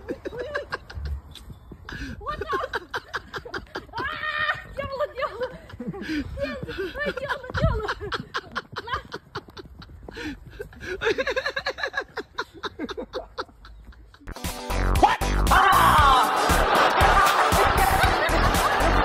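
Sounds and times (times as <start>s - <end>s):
people laughing: 0.0s - 1.3s, 1.9s - 14.3s, 15.0s - 19.0s.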